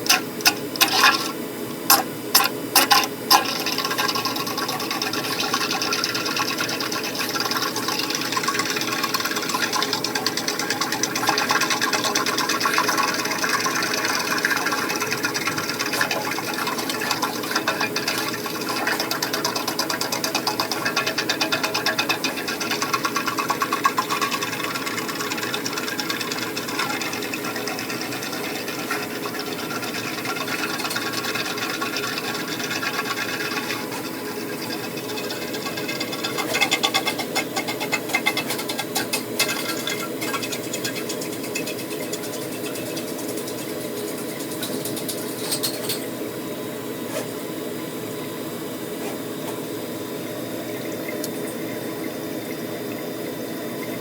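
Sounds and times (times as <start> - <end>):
cable rattling in pipe: 0.0 - 1.3, 1.9 - 46.1
drain cleaner motor whirring: 0.0 - 54.0.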